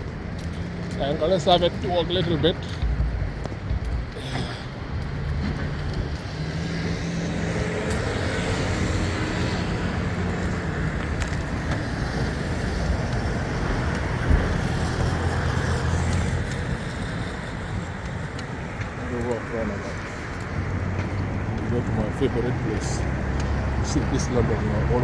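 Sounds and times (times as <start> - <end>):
passing cars: 0.0 - 25.0
vehicle engine humming: 0.0 - 25.0.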